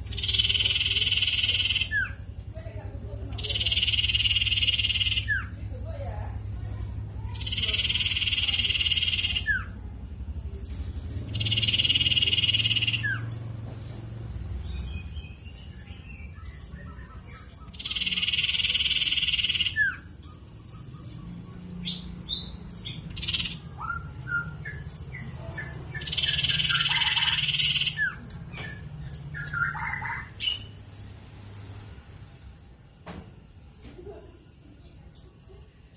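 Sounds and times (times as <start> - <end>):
bird singing long trills: 0.0 - 2.3, 3.1 - 10.3, 11.2 - 33.0
bird chirps: 0.0 - 2.4, 3.1 - 6.0, 6.8 - 34.2.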